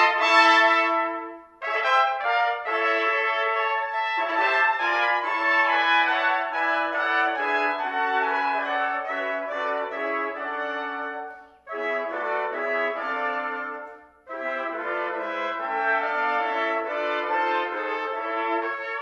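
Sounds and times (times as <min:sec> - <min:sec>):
trumpets playing chords: 0:00.0 - 0:19.0.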